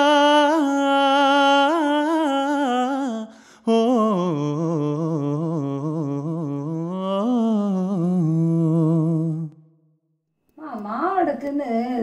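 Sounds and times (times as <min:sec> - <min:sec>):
man singing wordless melody: 0:00.0 - 0:09.7.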